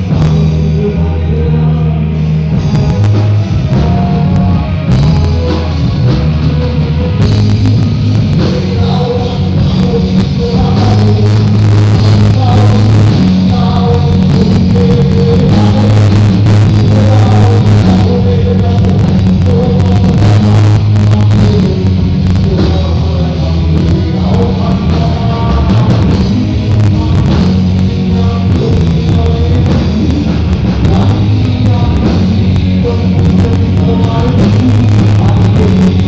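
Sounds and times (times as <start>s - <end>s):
live rock band: 0.0s - 36.0s
person singing: 0.0s - 36.0s.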